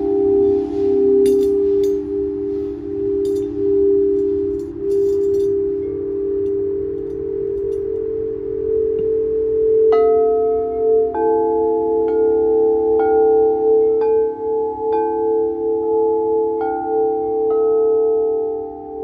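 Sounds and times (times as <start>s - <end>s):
singing bowl low hum: 0.0s - 19.0s
struck singing bowl tones: 0.0s - 19.0s.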